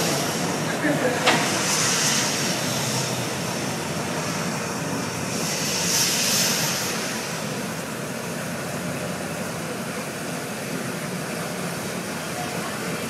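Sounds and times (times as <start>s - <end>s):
high steam hiss: 0.0s - 13.0s
steam train running: 0.0s - 13.0s.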